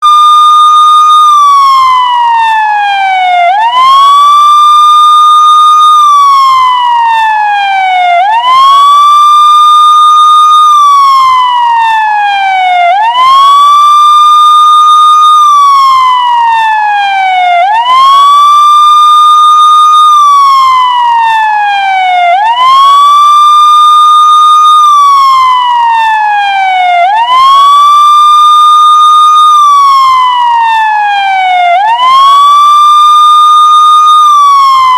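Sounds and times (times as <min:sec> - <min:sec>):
police siren wailing: 0:00.0 - 0:34.9.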